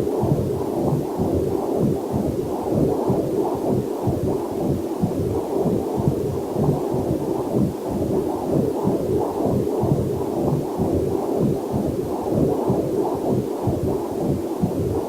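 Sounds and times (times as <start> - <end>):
whooshing heartbeat pulses: 0.0 - 15.0.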